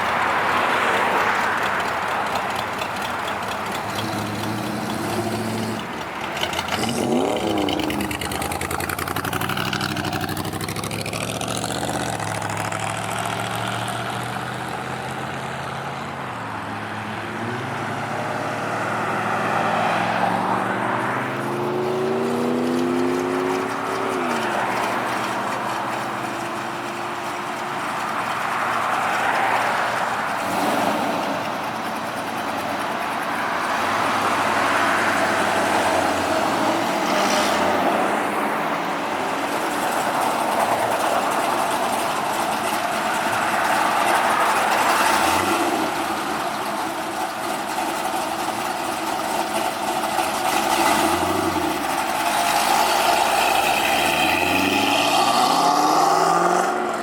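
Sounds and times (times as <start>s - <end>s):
car engines passing: 0.0s - 57.0s.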